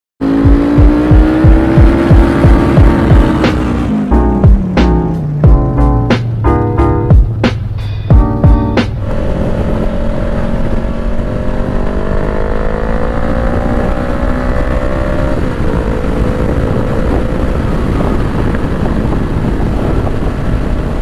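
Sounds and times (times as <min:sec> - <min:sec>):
motorcycle engine accelerating: 0:00.2 - 0:21.0
wind rush: 0:00.6 - 0:21.0.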